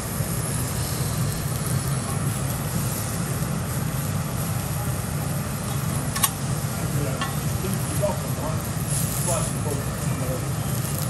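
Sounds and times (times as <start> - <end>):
lobster sizzling on a griddle: 0.0 - 11.0
steady low hum: 0.0 - 11.0.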